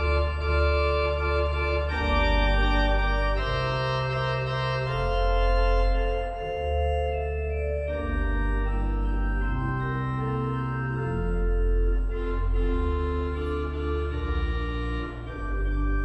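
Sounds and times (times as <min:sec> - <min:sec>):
organ chords over bass notes: 0:00.0 - 0:16.0.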